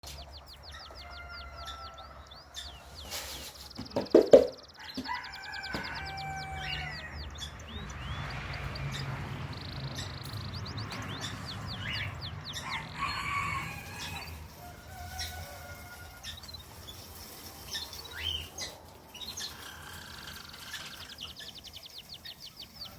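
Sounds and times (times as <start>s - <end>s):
finches chirping: 0.0s - 13.2s, 16.2s - 22.9s.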